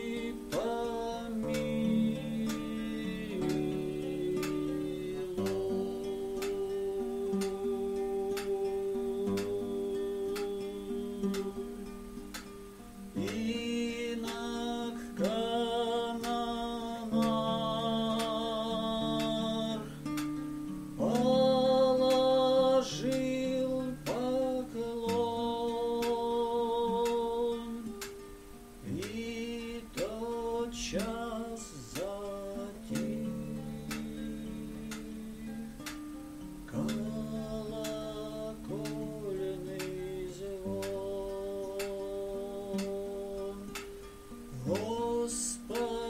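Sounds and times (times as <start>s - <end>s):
man singing: 0.0s - 12.2s, 13.0s - 20.4s, 21.0s - 28.2s, 28.8s - 36.0s, 36.7s - 46.0s
classical acoustic guitar: 0.0s - 46.0s.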